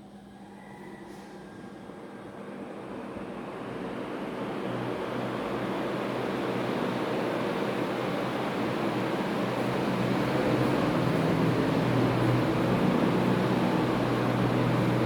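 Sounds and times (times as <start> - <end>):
ceiling fan running: 1.9 - 15.0.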